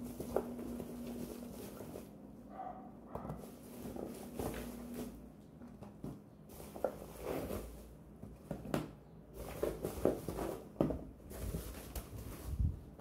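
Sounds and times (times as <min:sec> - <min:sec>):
cardboard rustling: 0:00.0 - 0:02.2, 0:03.2 - 0:08.8, 0:09.4 - 0:13.0.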